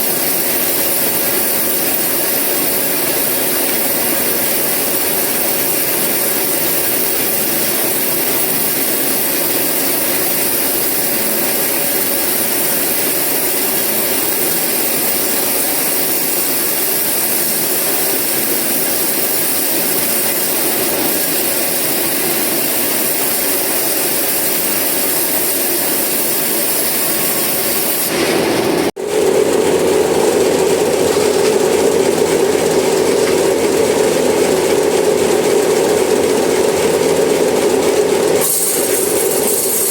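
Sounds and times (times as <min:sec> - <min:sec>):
sawmill saw cutting logs: 0:00.0 - 0:39.9.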